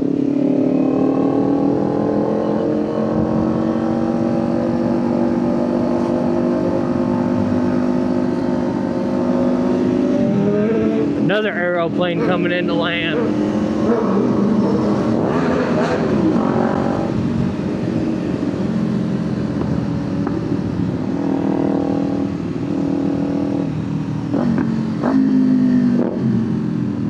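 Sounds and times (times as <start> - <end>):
motorcycle engine revving: 0.0 - 27.0
wind and road noise: 0.0 - 27.0.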